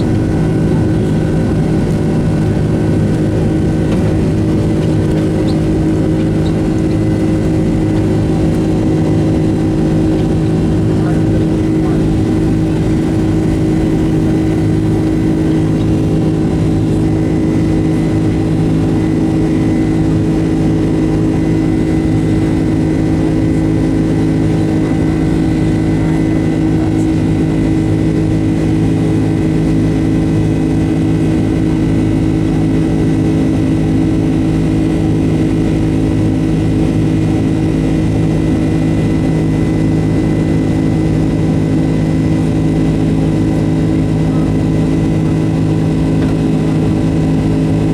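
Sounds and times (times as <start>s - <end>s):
jet engines heard from cabin: 0.0s - 47.9s.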